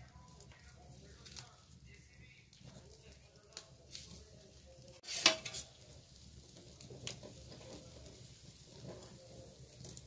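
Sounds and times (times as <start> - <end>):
faint sizzling: 0.0 - 10.0
wood fire crackling: 0.0 - 10.0.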